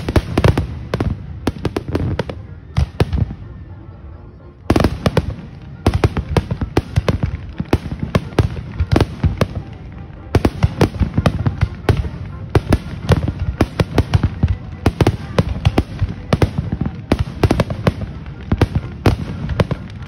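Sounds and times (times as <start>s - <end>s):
fireworks bursting: 0.0s - 3.6s, 4.7s - 20.0s.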